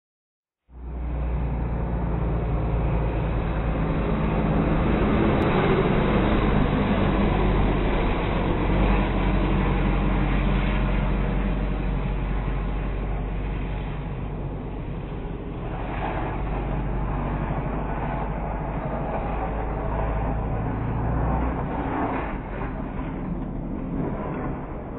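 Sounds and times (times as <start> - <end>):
low engine rumble: 0.6 - 24.9.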